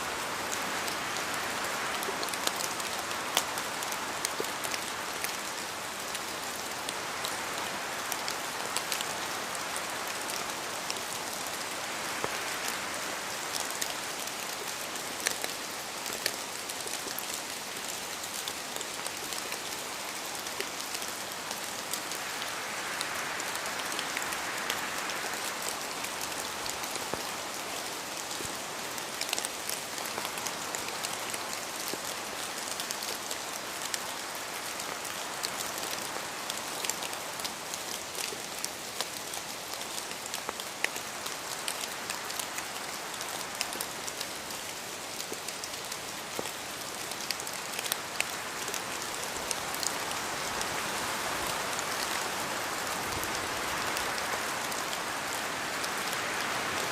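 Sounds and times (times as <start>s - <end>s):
rain drops ticking: 0.0s - 56.9s
wind: 0.0s - 56.9s.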